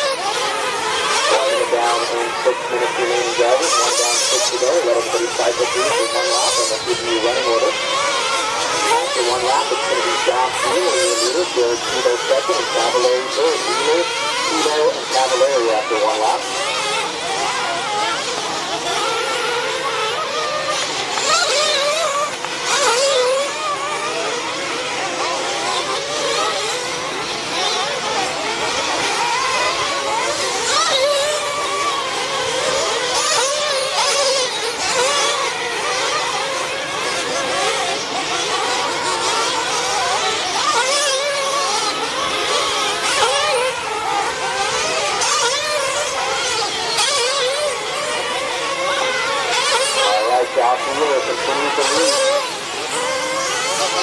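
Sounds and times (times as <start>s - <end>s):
rc truck engines whining: 0.0s - 54.0s.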